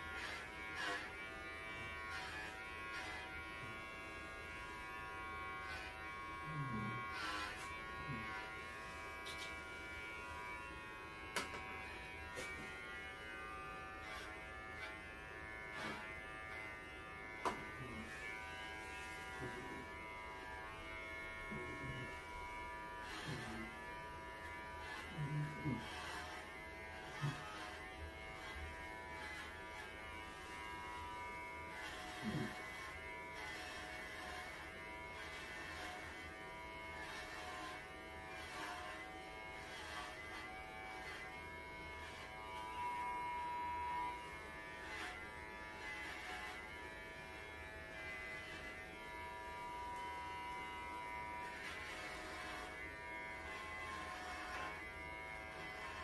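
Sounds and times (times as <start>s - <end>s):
electric clippers buzzing: 0.0s - 56.0s.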